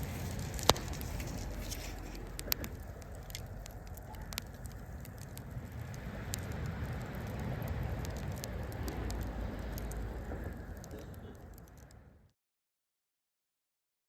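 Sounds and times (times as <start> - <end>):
low rushing noise: 0.0 - 12.2
campfire crackling and popping: 0.0 - 12.3.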